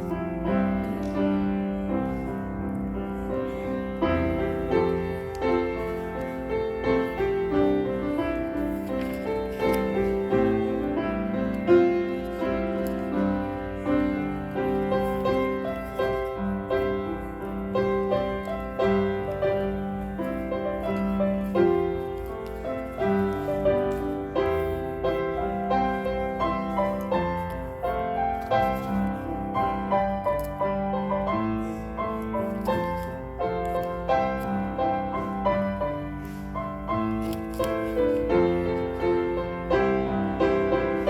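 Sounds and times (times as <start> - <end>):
solo piano piece: 0.0 - 41.0.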